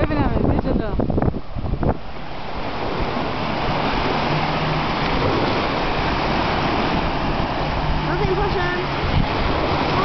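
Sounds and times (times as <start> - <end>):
waves washing onto shore: 0.0 - 10.0.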